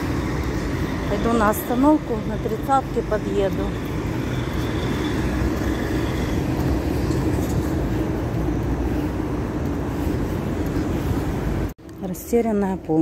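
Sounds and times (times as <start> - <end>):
traffic on busy road: 0.0 - 13.0.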